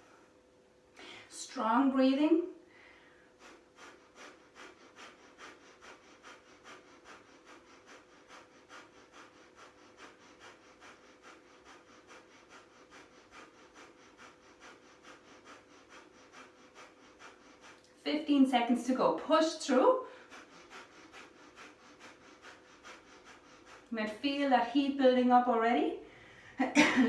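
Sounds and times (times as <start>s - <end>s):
rapid rhythmic breathing: 0.0s - 0.4s, 1.0s - 26.9s.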